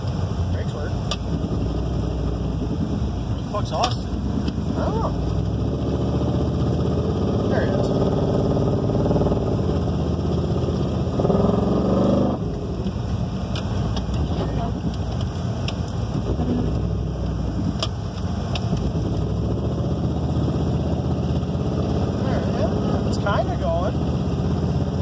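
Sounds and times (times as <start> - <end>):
car engine running from inside cabin: 0.0 - 25.0.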